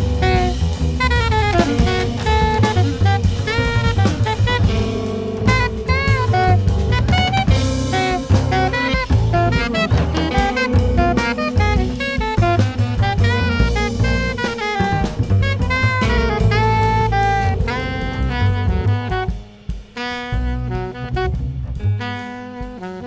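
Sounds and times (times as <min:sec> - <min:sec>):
bass groove: 0:00.0 - 0:23.0
drum kit: 0:00.0 - 0:23.0
horns playing jazz: 0:00.0 - 0:23.0.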